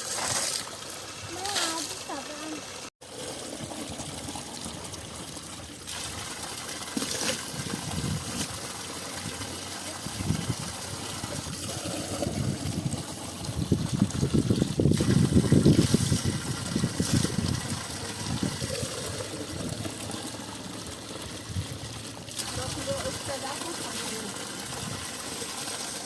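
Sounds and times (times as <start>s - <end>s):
water splashing and gushing: 0.0s - 26.0s.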